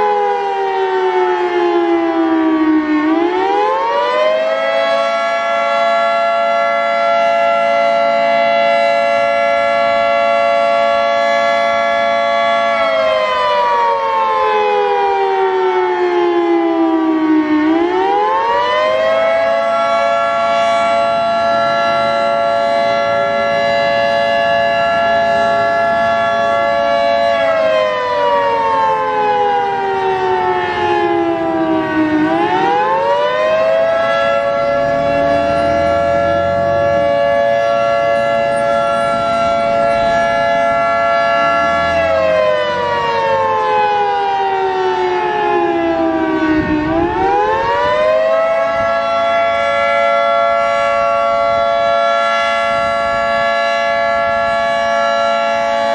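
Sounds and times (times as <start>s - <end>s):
outdoor warning siren: 0.0s - 55.9s.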